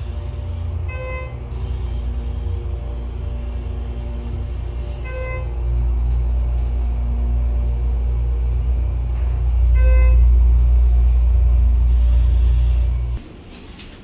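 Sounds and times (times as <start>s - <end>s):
elevator rumbling: 0.0s - 14.0s.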